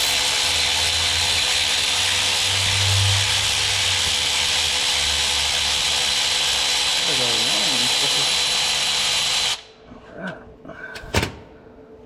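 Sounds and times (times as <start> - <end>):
power tool whirring: 0.0 - 9.7.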